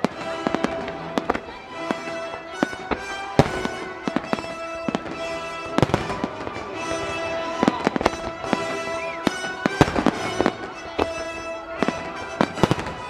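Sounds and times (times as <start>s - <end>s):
firework shells bursting: 0.0s - 13.0s
music playing: 0.0s - 13.0s.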